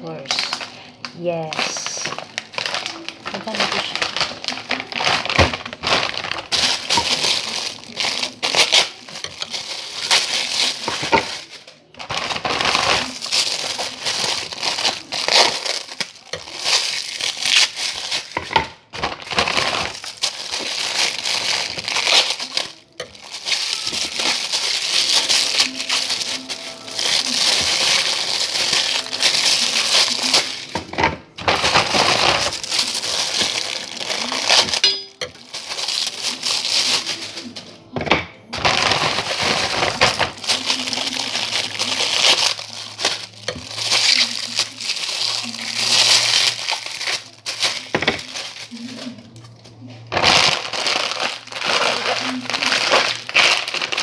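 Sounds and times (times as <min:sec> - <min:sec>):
plastic bag crinkling: 0:00.0 - 0:54.0.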